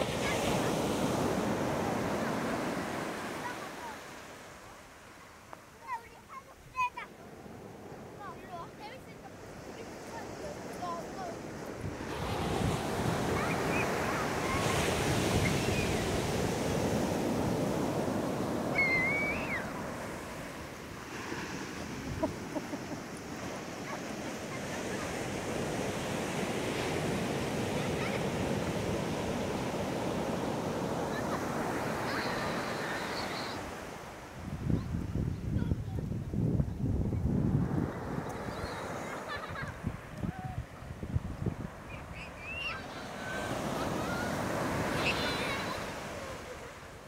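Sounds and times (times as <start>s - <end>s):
waves washing on beach: 0.0s - 47.0s.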